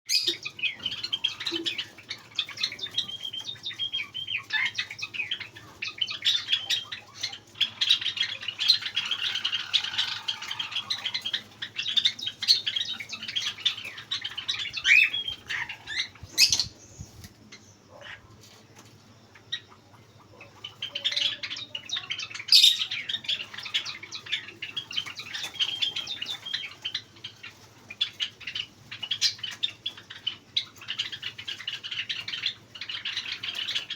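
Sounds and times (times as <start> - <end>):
cockatiels chirping: 0.1 - 33.9.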